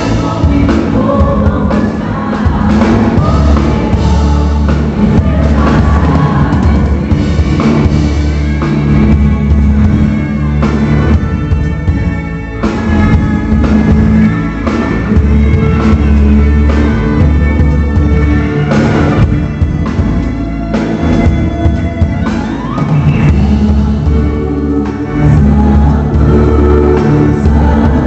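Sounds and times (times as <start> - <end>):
bass guitar: 0.0 - 28.0
drum kit: 0.0 - 28.0
electric guitar: 0.0 - 28.0.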